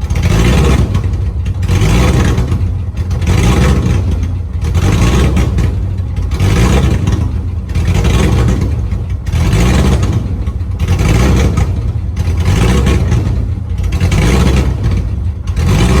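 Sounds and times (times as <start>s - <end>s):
loud car exhaust rumble: 0.0s - 16.0s.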